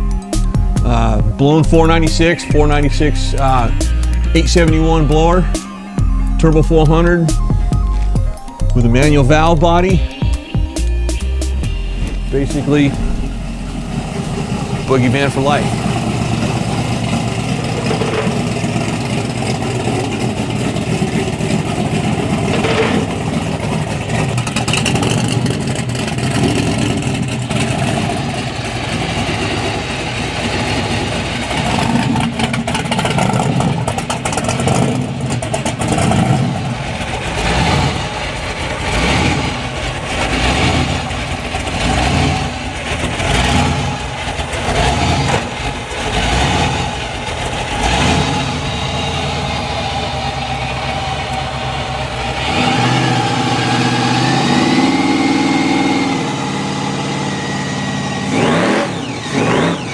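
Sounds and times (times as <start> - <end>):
van engine revving: 0.0 - 59.9.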